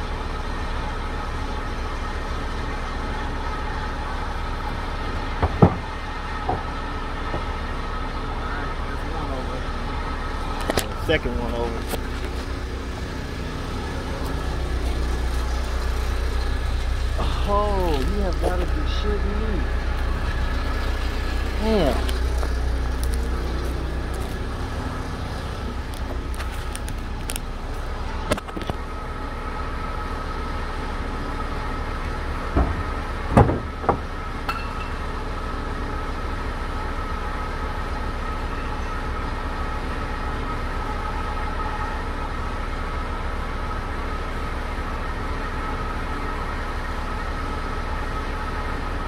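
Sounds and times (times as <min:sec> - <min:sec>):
truck engine idling: 0:00.0 - 0:49.0.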